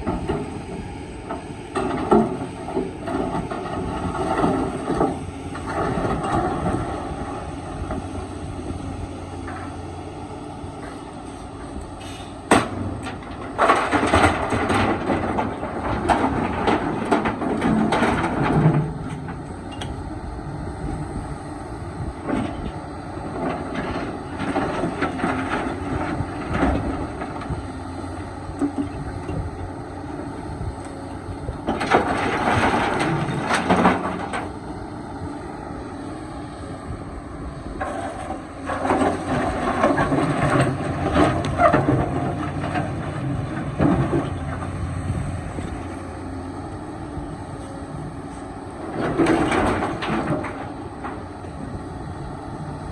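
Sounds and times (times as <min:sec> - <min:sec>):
excavator engine running: 0:00.0 - 0:52.9.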